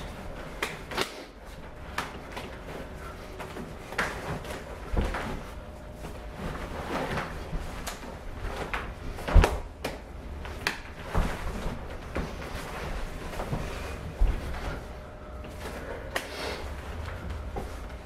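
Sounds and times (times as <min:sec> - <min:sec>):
clothing rustling: 0:00.0 - 0:18.0.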